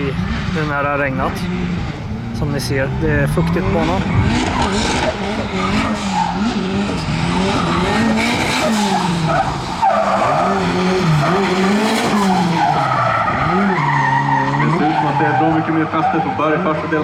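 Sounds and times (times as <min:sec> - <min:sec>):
car engine revving: 0:00.0 - 0:17.0
tyres skidding on wet track: 0:00.0 - 0:17.0.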